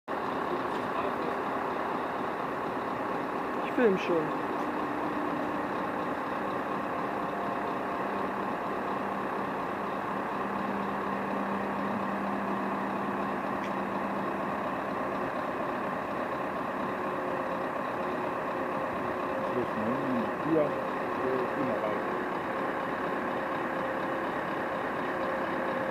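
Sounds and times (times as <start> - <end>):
diesel truck engine idling: 0.1 - 25.9.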